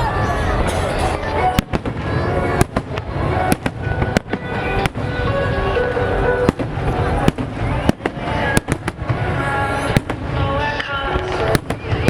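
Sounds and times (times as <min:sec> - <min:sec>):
music playing: 0:00.0 - 0:12.0
fireworks exploding: 0:00.1 - 0:12.0.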